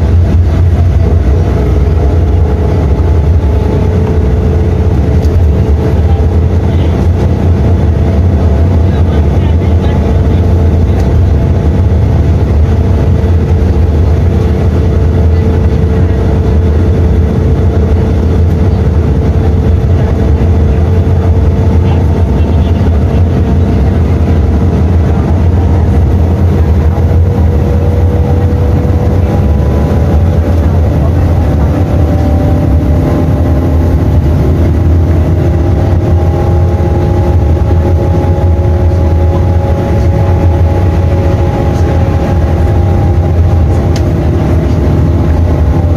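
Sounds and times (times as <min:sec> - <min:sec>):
bus diesel engine rumbling: 0:00.0 - 0:45.9.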